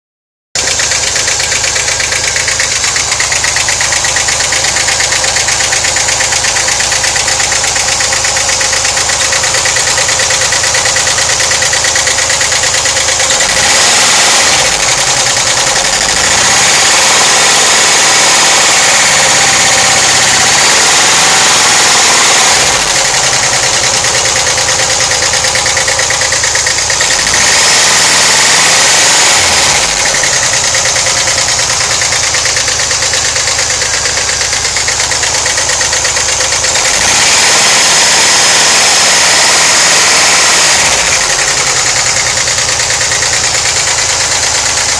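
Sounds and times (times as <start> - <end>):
engine idling and revving: 0.6 - 44.9
fast ticking from engine: 0.6 - 44.9.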